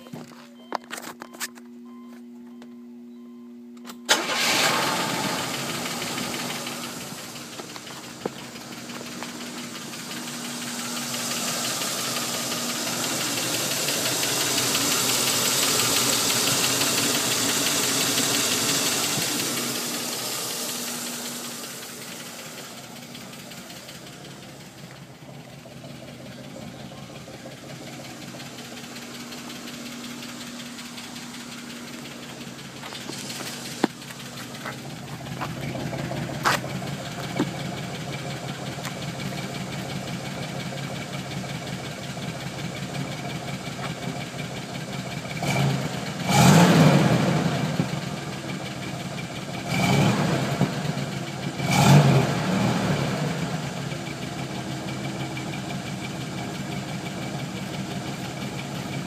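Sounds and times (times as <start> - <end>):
car engine starting and idling: 0.0 - 59.0.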